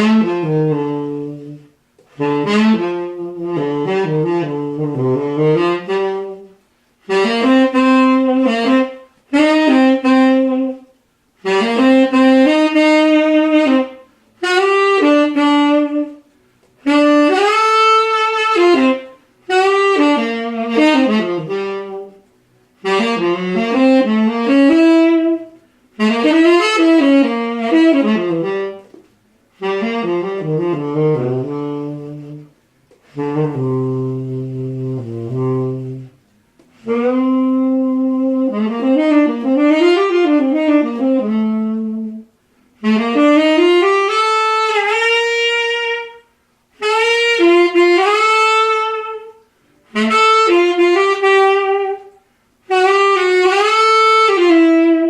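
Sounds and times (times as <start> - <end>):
solo tenor saxophone jazz phrases: 0.0 - 55.0.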